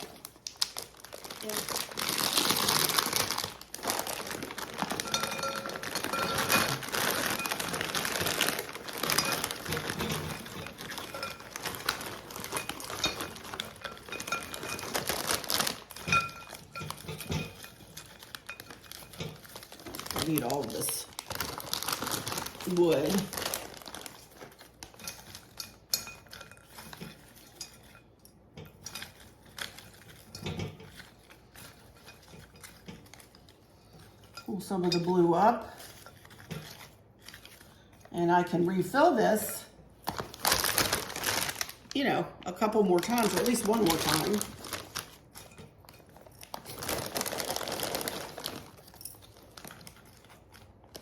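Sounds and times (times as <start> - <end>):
dry potpourri rustling in a bowl: 0.0 - 51.0.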